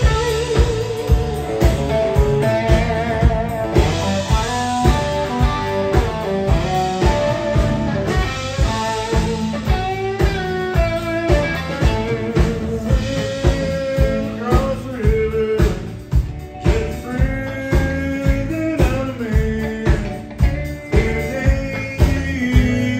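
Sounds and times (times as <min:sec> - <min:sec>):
bass: 0:00.0 - 0:22.9
drums: 0:00.0 - 0:22.9
electric guitar lead line: 0:00.0 - 0:22.9.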